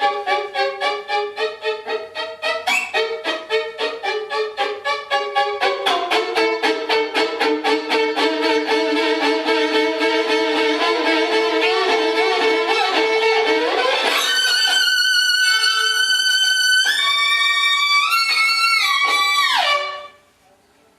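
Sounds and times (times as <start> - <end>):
violin playing: 0.0 - 20.3.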